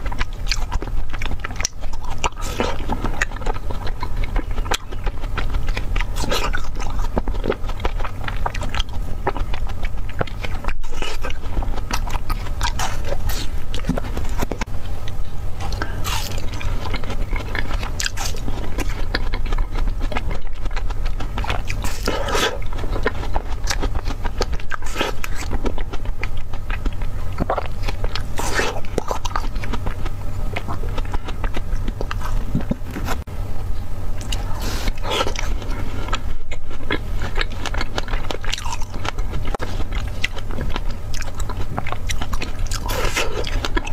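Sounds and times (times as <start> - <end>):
crunching bites and chewing: 0.0 - 33.3, 34.1 - 43.9
steady low hum: 0.0 - 43.9.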